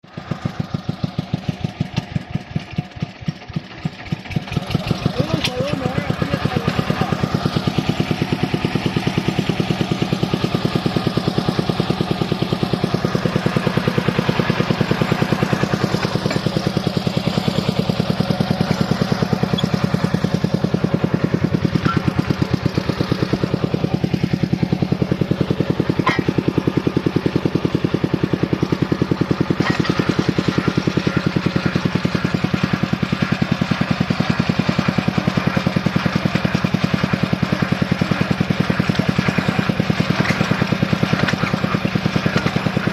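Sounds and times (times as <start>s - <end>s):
drilling rig engine running: 0.0s - 42.9s.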